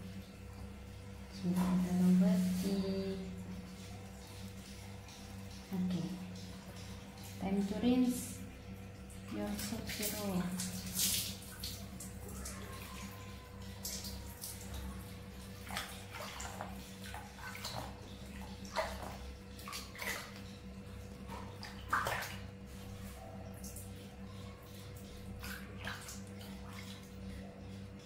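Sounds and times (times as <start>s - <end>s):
bath water splashing: 0.0s - 27.9s
steady low hum: 0.0s - 28.0s.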